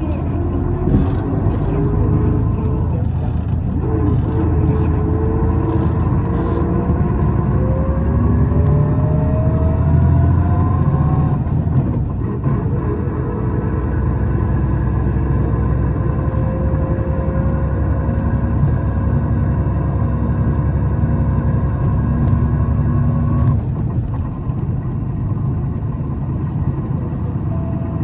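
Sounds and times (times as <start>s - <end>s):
bus engine whining: 0.0s - 28.0s.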